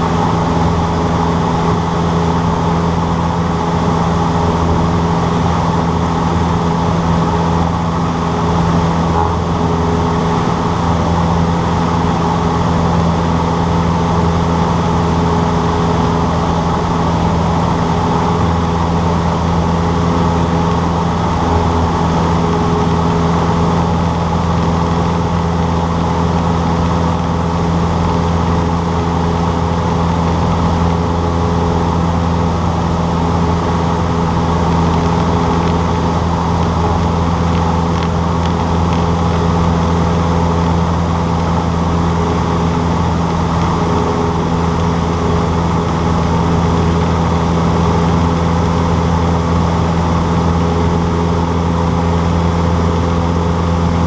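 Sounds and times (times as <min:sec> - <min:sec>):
propeller plane engine drone: 0:00.0 - 0:54.0.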